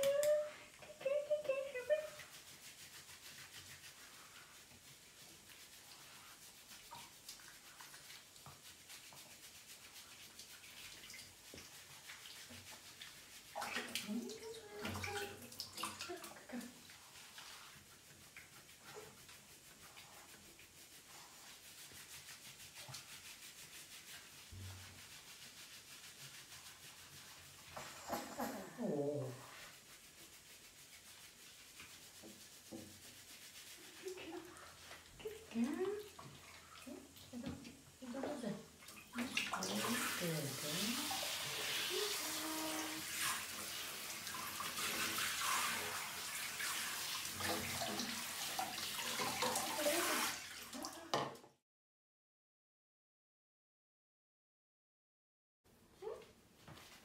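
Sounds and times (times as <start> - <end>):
hands rubbing wet fur: 0.0 - 50.9
shower sprayer water splashing: 0.0 - 51.1.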